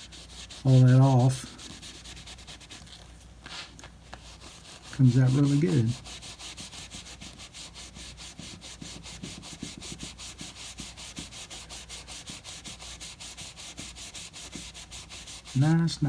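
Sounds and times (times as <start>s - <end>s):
rubbing leather: 0.0s - 16.0s.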